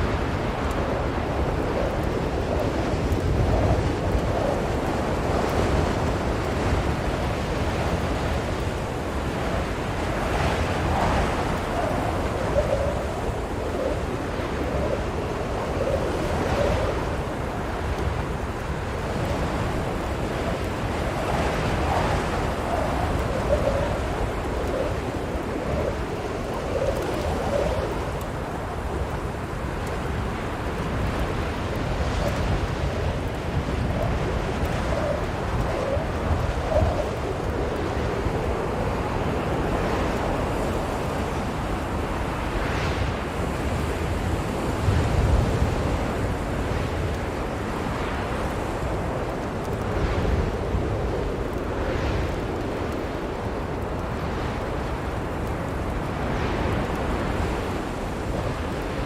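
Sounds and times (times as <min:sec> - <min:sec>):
blizzard wind blowing: 0:00.0 - 0:59.0.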